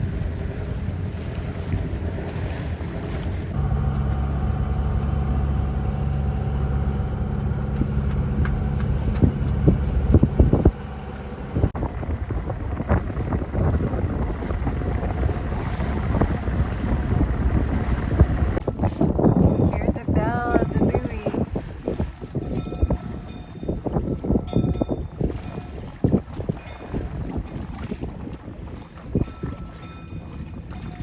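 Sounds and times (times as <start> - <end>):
boat engine drone: 0.0 - 31.0
water splashing: 0.0 - 31.0
wind buffeting microphone: 0.0 - 31.0.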